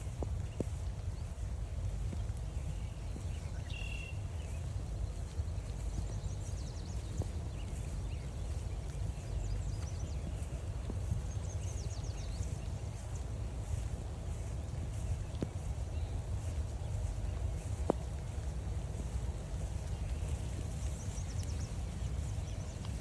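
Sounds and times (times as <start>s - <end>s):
birds calling faintly: 0.0s - 23.0s
footsteps on forest trail: 0.0s - 23.0s
low microphone rumble: 0.0s - 23.0s.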